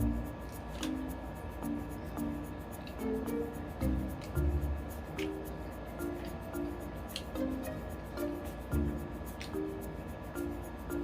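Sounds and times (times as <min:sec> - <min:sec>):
light tune of repeated notes: 0:00.0 - 0:11.0
ticking beat: 0:00.0 - 0:11.0.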